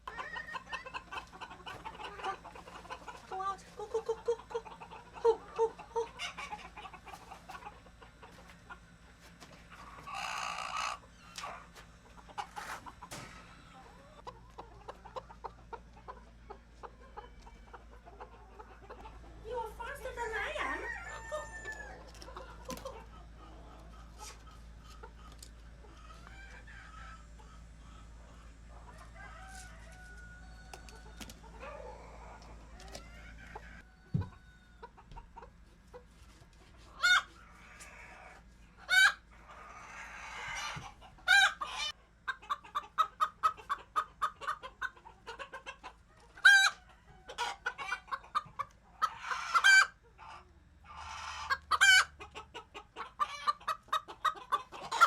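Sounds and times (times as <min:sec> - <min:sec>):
chickens cackling and squawking: 0:00.0 - 0:55.0
chickens clucking: 0:00.0 - 0:55.0.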